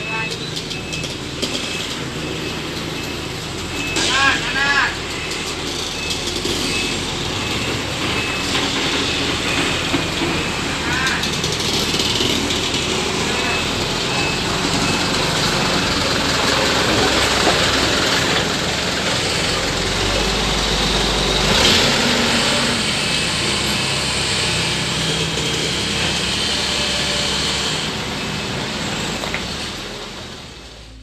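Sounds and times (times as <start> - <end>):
diesel truck engine running: 0.0 - 31.0.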